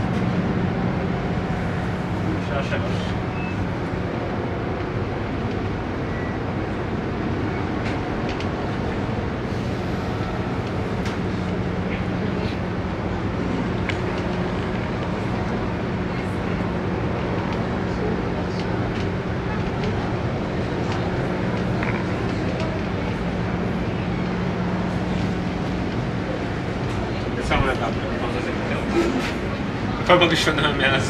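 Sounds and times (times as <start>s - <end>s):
ship engines humming: 0.0s - 31.0s.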